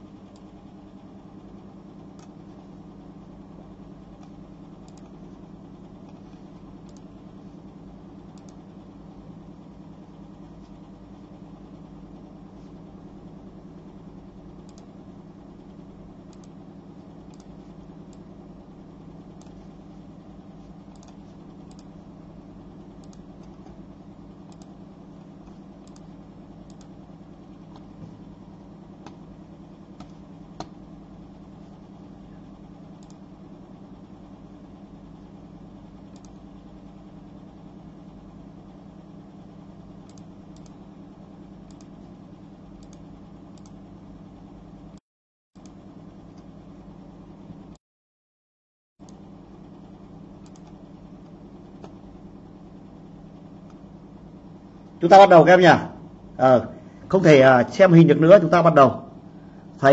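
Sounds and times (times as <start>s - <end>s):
room and equipment hum: 0.0s - 45.0s, 45.6s - 47.8s, 49.0s - 59.9s.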